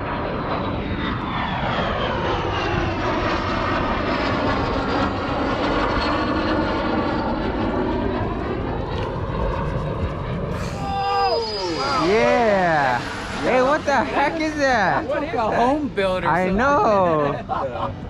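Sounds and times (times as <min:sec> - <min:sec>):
airplane engine drone overhead: 0:00.0 - 0:18.0.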